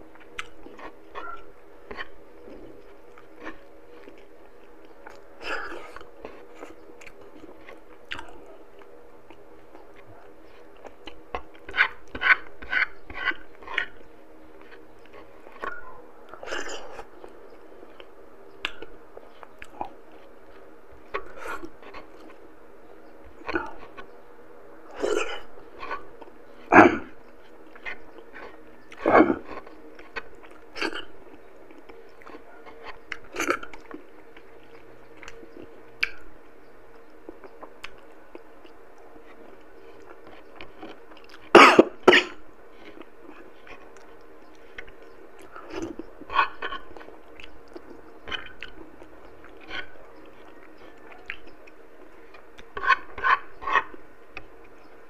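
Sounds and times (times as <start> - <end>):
close-up chewing: 0.0 - 24.2, 24.9 - 55.0.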